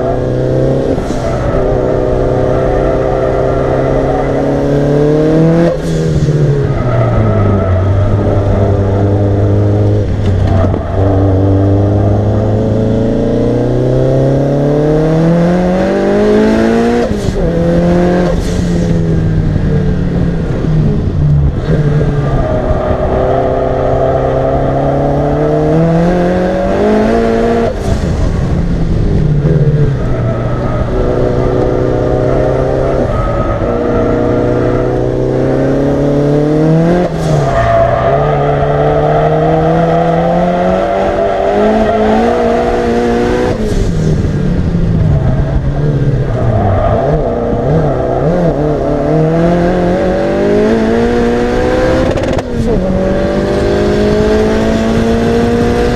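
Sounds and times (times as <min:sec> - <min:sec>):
turbocharged engine at full throttle: 0:00.0 - 0:55.9.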